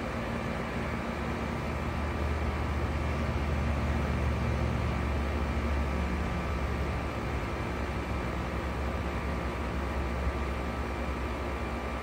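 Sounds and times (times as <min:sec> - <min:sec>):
compressor hum: 0:00.0 - 0:12.0
condenser fan whoosh: 0:00.0 - 0:12.0.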